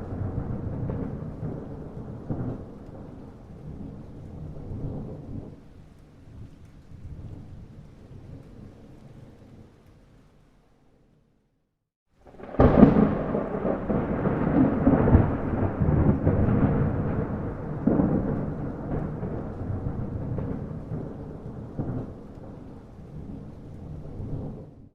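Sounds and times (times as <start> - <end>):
thunder rumbling: 0.0 - 9.8, 12.2 - 24.9.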